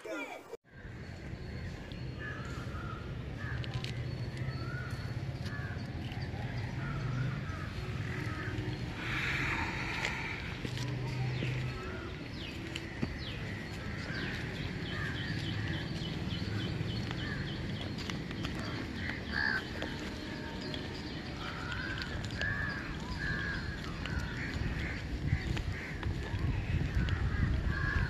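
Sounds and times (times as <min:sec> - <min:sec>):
birds calling: 0:00.8 - 0:28.0.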